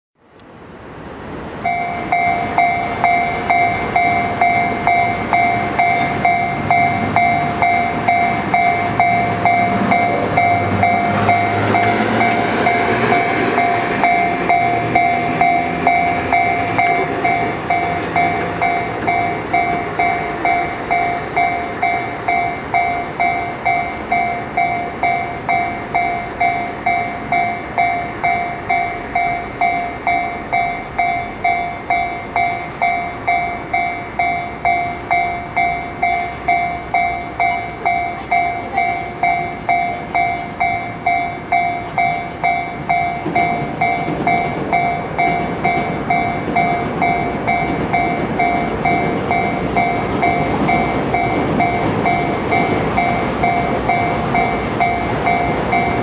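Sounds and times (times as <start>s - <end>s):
two-pitch electronic crossing bell: 1.7s - 56.0s.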